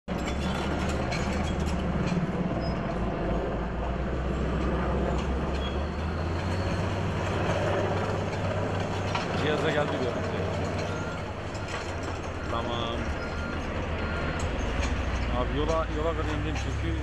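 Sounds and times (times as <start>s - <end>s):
heavy diesel engine droning: 0.1s - 17.0s.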